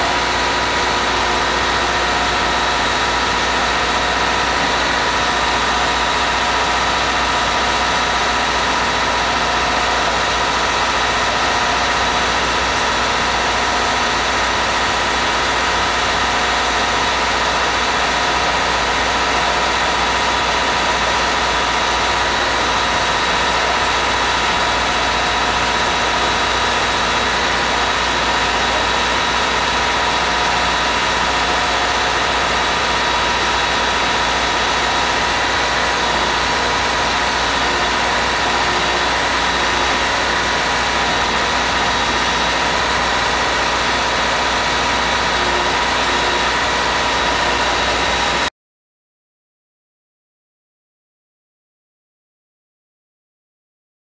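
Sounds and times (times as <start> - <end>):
excavator engine and hydraulics: 0.0 - 48.5.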